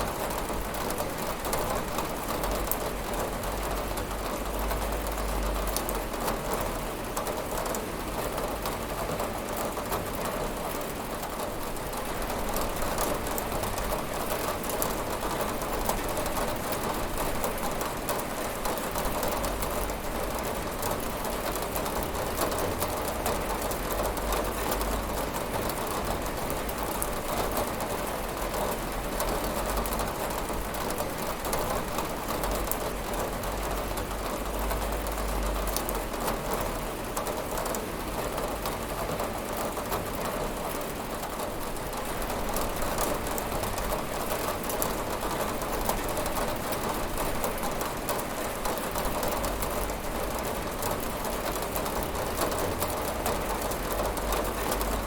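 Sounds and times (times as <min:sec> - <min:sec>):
rain pattering on a window: 0:00.0 - 0:55.0.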